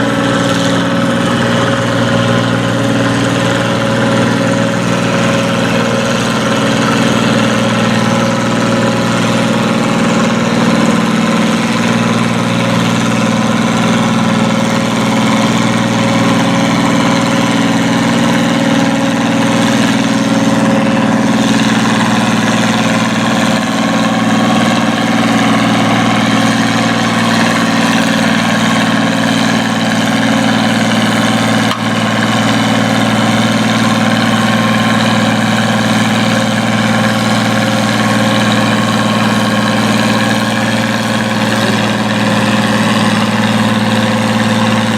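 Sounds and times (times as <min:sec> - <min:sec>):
tractor engine running steadily: 0:00.0 - 0:44.9.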